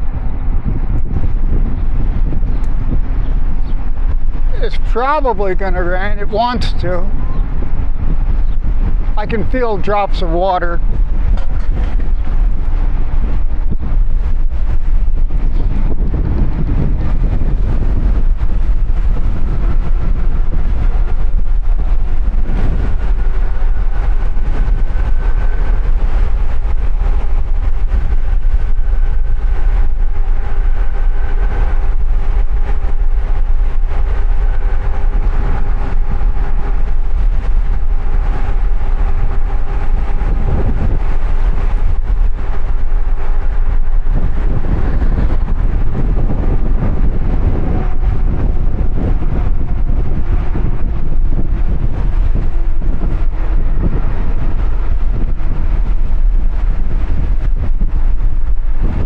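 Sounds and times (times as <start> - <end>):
steady hum: 0.0 - 59.0
wind buffeting microphone: 0.0 - 59.0.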